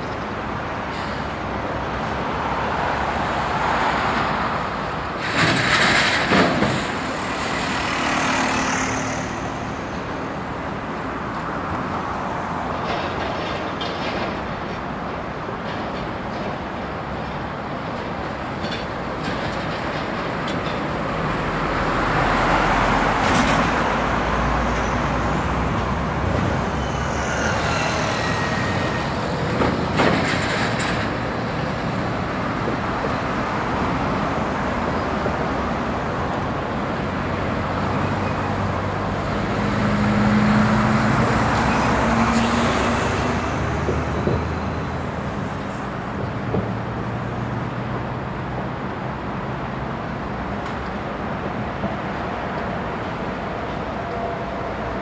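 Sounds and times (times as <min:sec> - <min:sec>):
traffic roar: 0:00.0 - 0:55.0
trucks driving past: 0:00.0 - 0:55.0.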